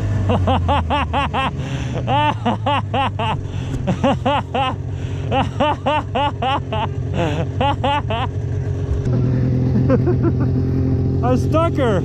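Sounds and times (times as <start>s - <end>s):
snowmobile engine idling: 0.0s - 12.0s
person laughing: 0.2s - 8.4s, 9.2s - 10.6s.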